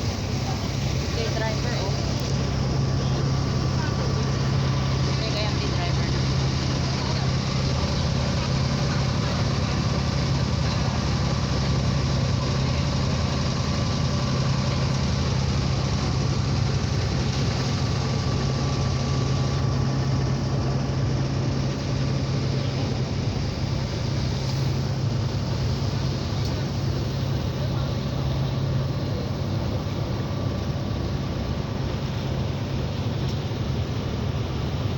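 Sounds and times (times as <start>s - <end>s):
boat engine humming: 0.0s - 34.9s.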